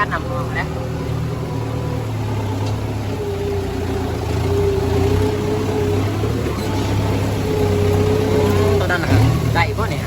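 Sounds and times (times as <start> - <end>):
engine whine: 0.0 - 10.0
tractor engine running: 0.0 - 10.0.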